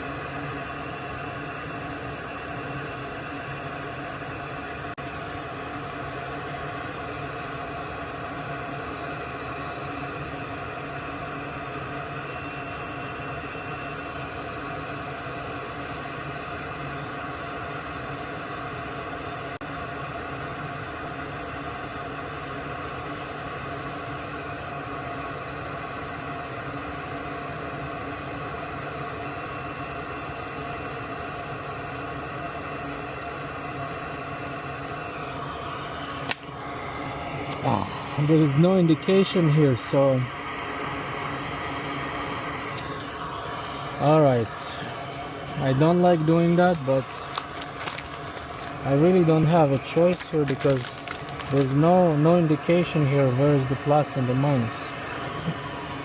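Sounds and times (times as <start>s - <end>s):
whirring hum and hiss: 0.0s - 56.0s.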